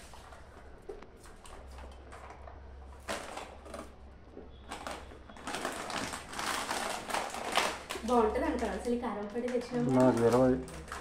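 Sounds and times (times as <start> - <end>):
plastic packets rustling: 0.0 - 11.0.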